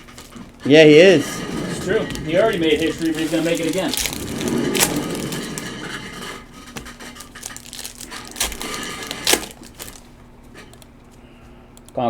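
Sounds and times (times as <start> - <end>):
faint crinkling of card packs: 0.0 - 12.0.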